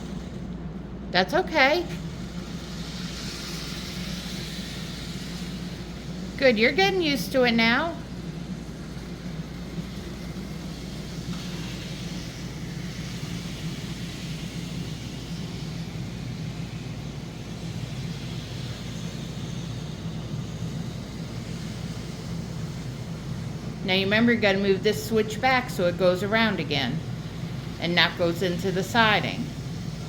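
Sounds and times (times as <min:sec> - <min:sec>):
model train motor hum: 0:00.0 - 0:00.6, 0:01.3 - 0:30.0
wheels hissing on rail: 0:00.0 - 0:30.0.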